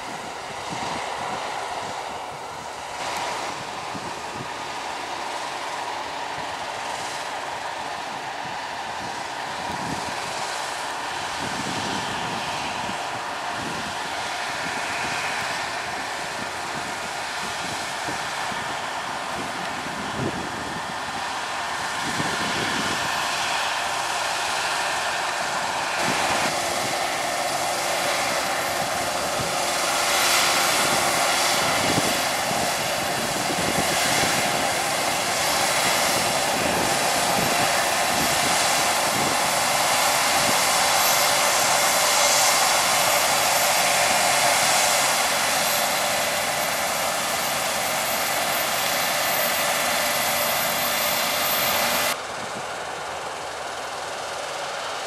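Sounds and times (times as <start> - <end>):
combine harvester engine and machinery: 0.0 - 55.0.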